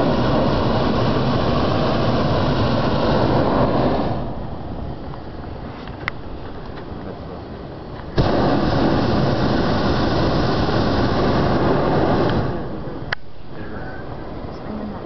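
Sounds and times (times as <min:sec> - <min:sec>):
propane burner blasting: 0:00.0 - 0:15.0.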